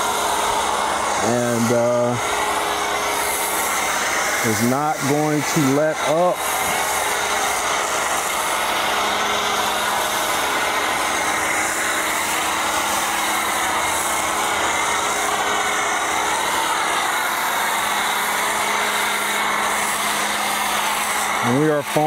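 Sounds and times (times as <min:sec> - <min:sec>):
low motor hum: 0:00.0 - 0:22.0
pressure washer spray hiss: 0:00.0 - 0:22.0.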